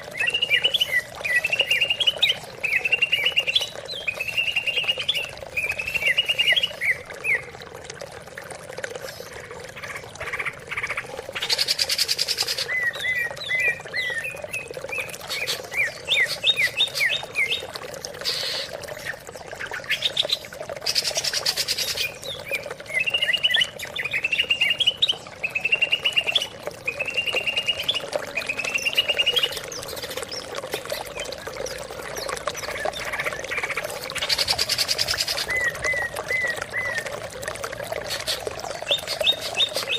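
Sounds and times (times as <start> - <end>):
bird singing chirps and trills: 0.0 - 7.6, 9.0 - 37.2, 38.1 - 39.9.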